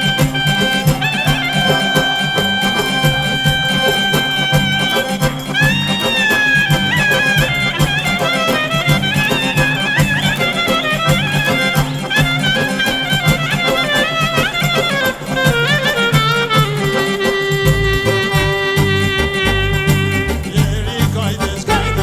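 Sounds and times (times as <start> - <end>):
instrumental folk music: 0.0 - 22.0.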